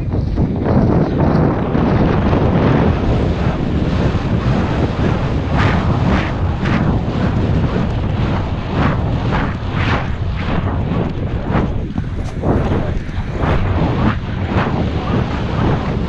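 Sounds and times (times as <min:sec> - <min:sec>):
horse galloping: 0:00.0 - 0:16.0
wind buffeting microphone: 0:00.0 - 0:16.0.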